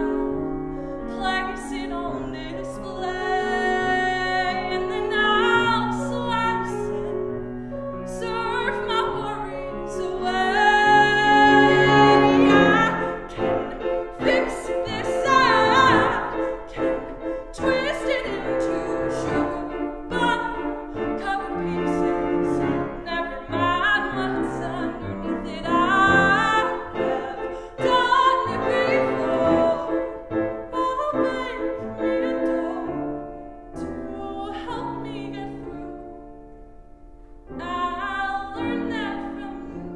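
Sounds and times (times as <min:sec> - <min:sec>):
woman singing: 0:00.0 - 0:07.4, 0:08.1 - 0:33.2, 0:33.8 - 0:36.1, 0:37.5 - 0:39.9
grand piano: 0:00.0 - 0:39.9.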